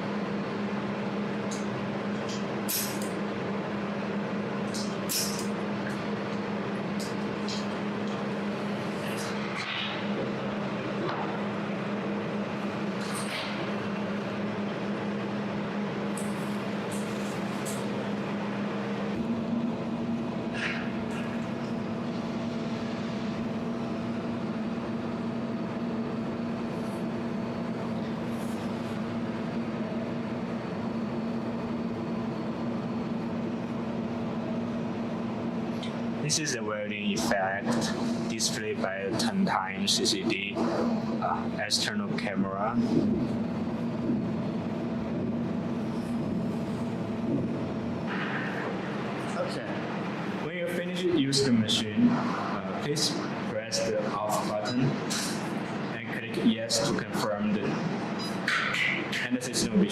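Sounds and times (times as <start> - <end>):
laser welding machine hum: 0.0 - 59.9.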